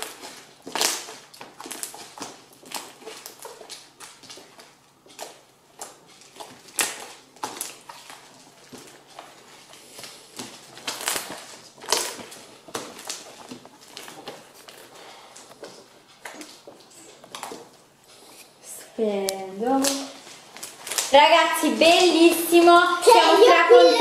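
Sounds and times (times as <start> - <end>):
slime squelching and popping: 0.0 - 18.2, 19.3 - 21.2.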